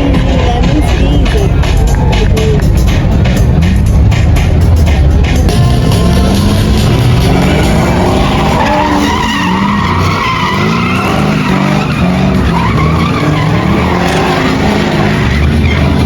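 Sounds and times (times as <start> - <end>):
car engine revving: 0.0 - 16.0
tyres skidding and squealing: 0.0 - 16.0.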